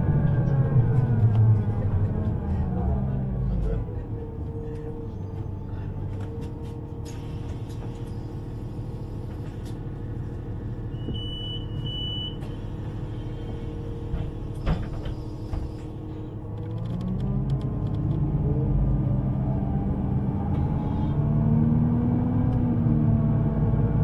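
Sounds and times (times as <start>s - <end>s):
underground train rumbling: 0.0s - 24.0s.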